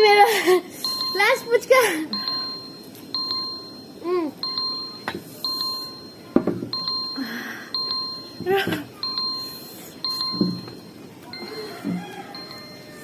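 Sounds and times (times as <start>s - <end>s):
two-pitch timer alarm beeps: 0.0s - 13.0s.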